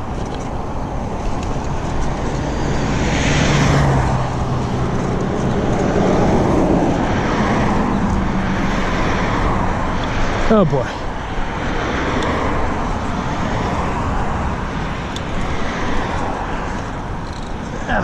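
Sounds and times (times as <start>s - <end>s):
traffic passing on busy road: 0.0s - 18.0s.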